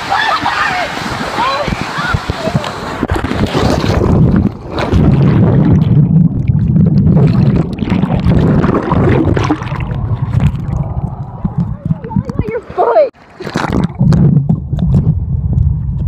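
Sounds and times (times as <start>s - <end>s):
water rushing and churning: 0.0s - 15.7s
muffled underwater rumble: 1.7s - 12.9s, 13.5s - 16.0s.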